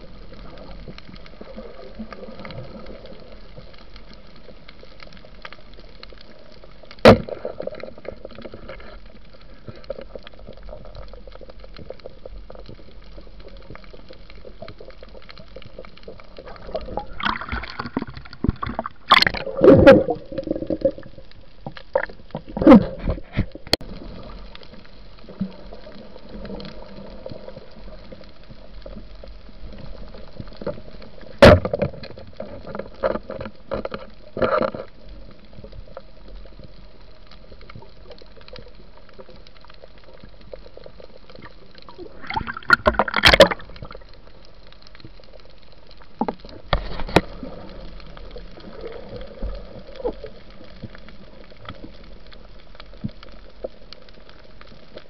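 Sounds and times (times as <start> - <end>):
muffled rushing water: 0.0 - 55.0.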